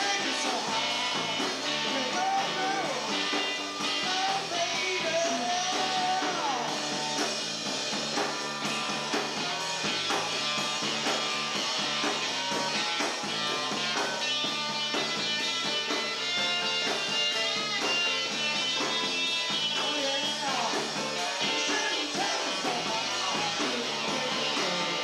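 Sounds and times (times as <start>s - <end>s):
drum kit beat: 0.0s - 25.0s
electric guitar: 0.0s - 25.0s.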